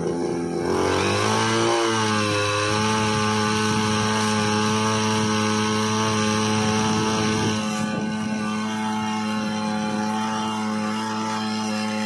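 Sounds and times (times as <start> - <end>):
small engine running at high speed: 0.0 - 12.0.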